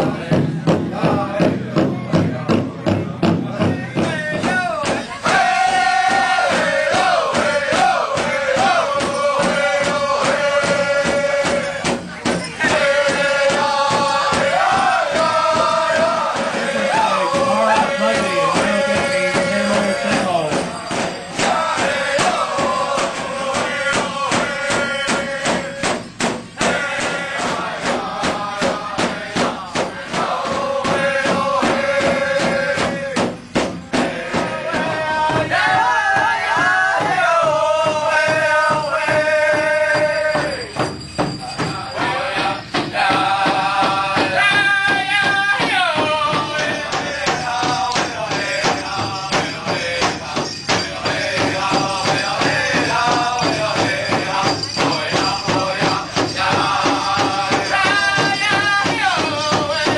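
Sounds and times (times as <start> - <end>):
large drum beat: 0.0 - 59.9
voices singing high chant: 0.0 - 59.9.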